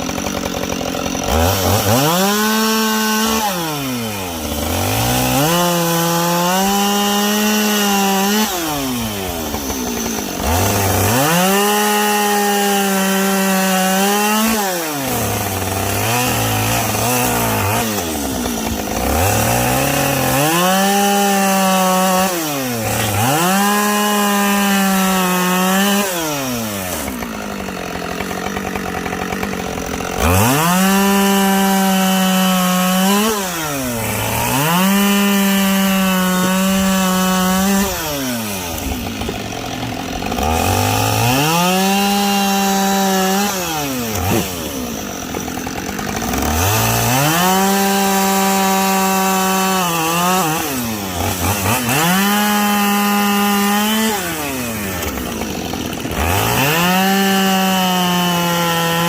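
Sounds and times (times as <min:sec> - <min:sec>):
chainsaw cutting logs: 0:00.0 - 0:59.0.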